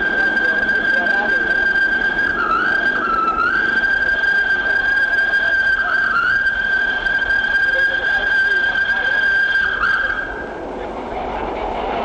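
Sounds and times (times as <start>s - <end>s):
steam whistle blowing: 0.0s - 10.5s.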